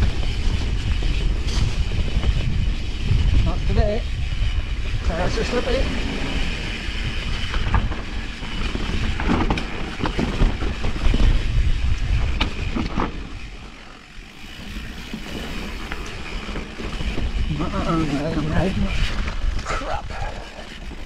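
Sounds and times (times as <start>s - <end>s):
bike tyres rumbling on trail: 0.0s - 21.0s
wheels knocking on roots: 0.0s - 21.0s.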